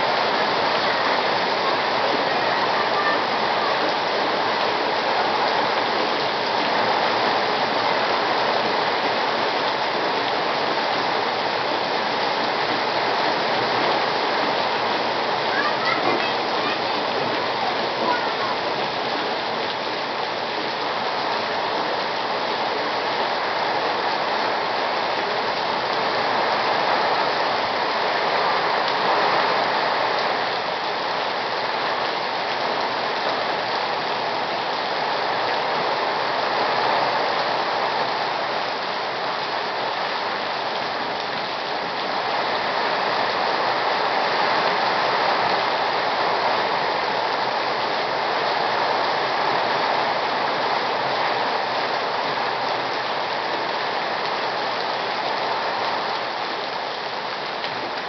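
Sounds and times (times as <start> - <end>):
torrential rain on pavement: 0.0 - 58.0.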